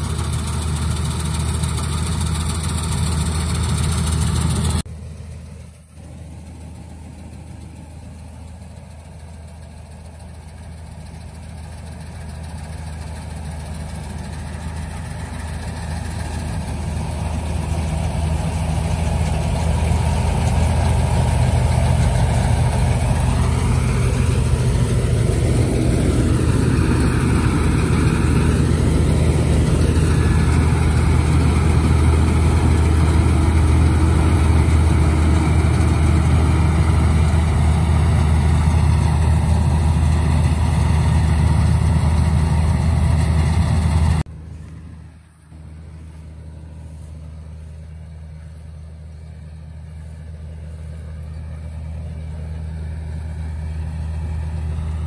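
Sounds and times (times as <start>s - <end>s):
heavy machine engine running: 0.0s - 55.0s.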